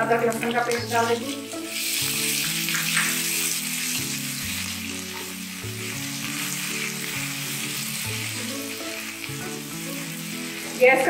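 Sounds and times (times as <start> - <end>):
spices frying in hot fat: 0.0 - 11.0.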